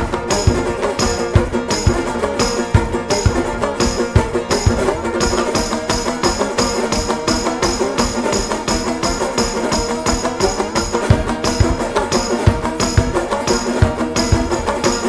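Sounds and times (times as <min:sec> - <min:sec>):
instrumental folk music: 0:00.0 - 0:15.0.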